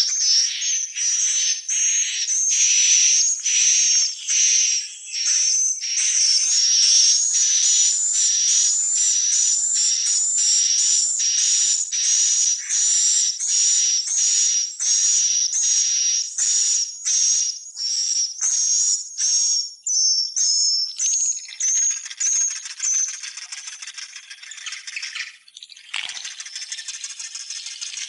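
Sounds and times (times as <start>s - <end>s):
continuous twittering chatter: 0.0s - 28.0s.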